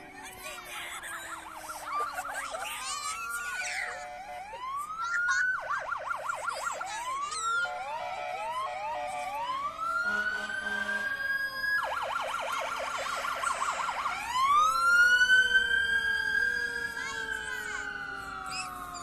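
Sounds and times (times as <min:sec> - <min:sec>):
siren wailing and yelping: 0:00.0 - 0:19.0.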